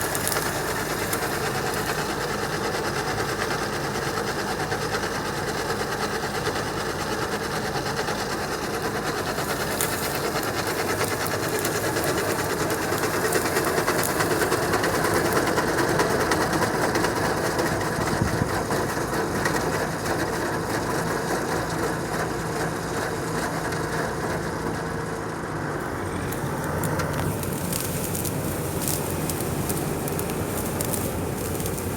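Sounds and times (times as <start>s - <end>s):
combine harvester engine drone: 0.0s - 31.9s.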